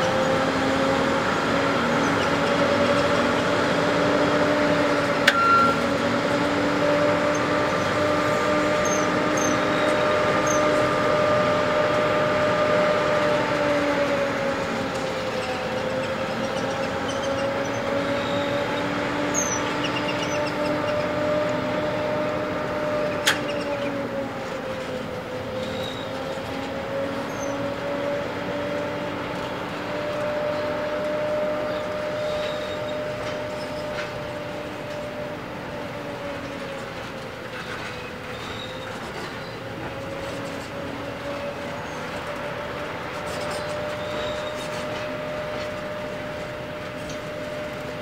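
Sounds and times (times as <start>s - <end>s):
locomotive whine: 0.0s - 48.0s
train rumbling past: 0.0s - 48.0s.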